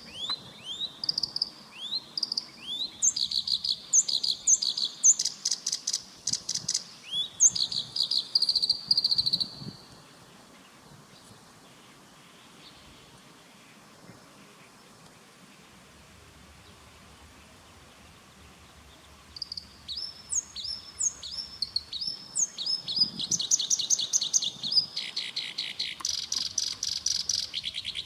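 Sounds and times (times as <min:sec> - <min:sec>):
reed warbler singing: 0:00.0 - 0:15.7, 0:16.6 - 0:28.0.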